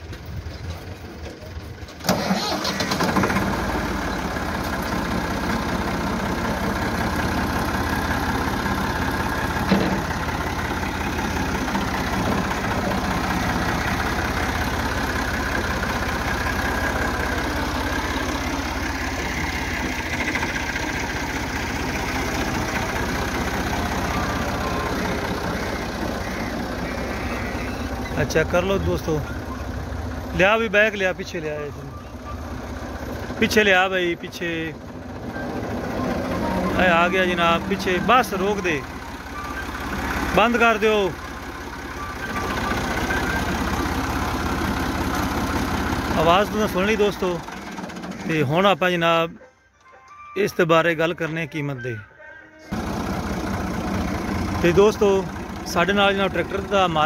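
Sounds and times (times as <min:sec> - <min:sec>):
diesel tractor engine starting: 0:00.0 - 0:52.0, 0:52.6 - 0:57.0
engine knock: 0:00.1 - 0:28.1, 0:34.8 - 0:48.6, 0:52.7 - 0:57.0.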